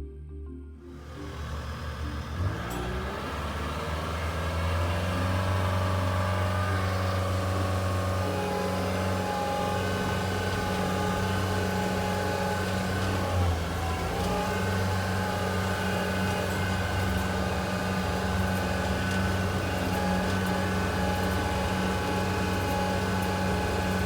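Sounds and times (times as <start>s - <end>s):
diesel engine running: 0.8s - 24.0s.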